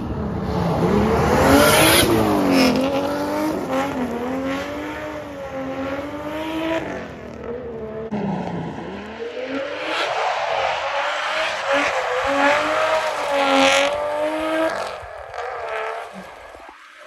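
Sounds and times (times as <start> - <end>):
car engine revving high: 0.3 - 16.6.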